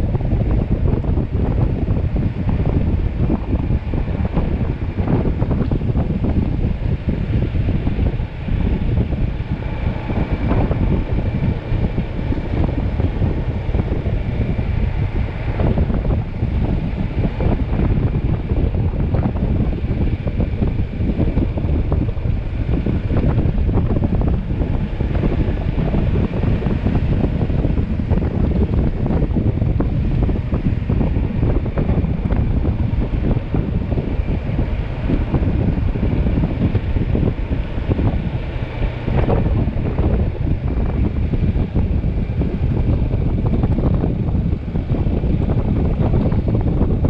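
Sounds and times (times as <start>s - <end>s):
heavy wind buffeting microphone: 0.0s - 47.0s.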